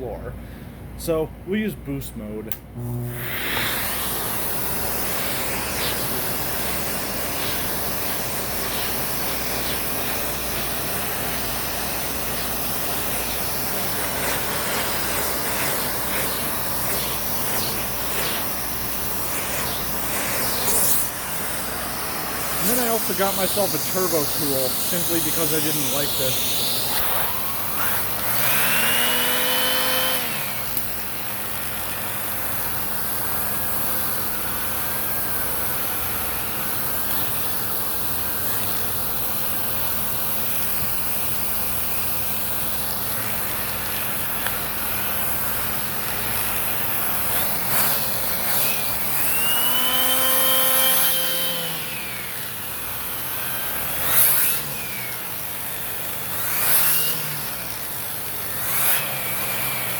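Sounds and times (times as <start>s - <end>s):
vacuum cleaner running: 2.7s - 59.9s.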